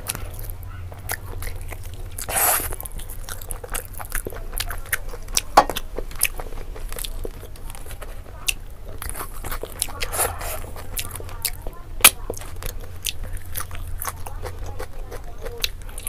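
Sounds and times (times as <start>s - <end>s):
person gnawing and sucking meat: 0.0s - 16.0s.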